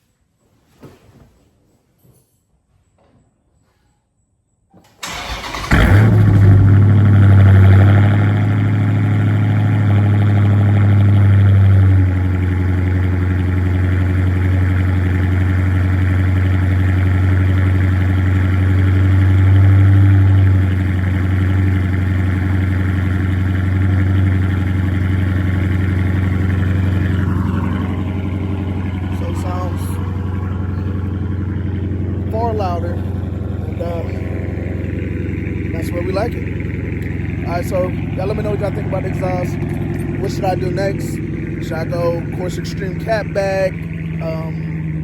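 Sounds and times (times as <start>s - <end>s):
car engine starting and idling: 4.8s - 45.0s.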